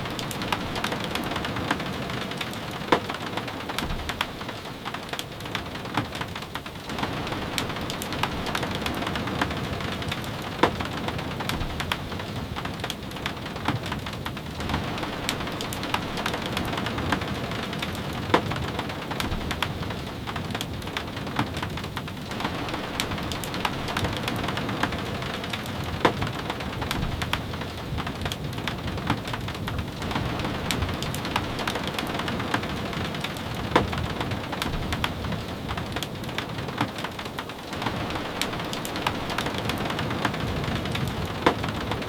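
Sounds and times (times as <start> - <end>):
steady rain with ticking drops: 0.0 - 42.0.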